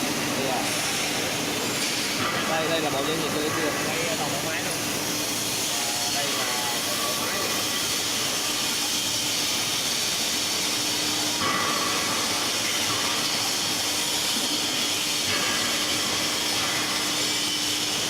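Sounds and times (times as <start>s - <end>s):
industrial machinery hissing: 0.0s - 18.0s.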